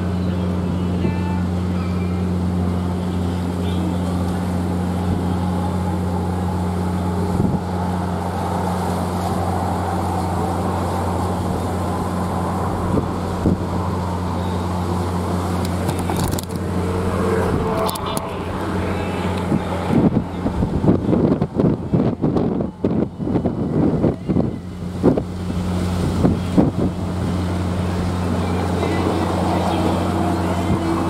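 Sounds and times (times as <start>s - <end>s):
low engine drone: 0.0s - 31.0s
water noise: 0.0s - 31.0s
wind: 0.0s - 31.0s.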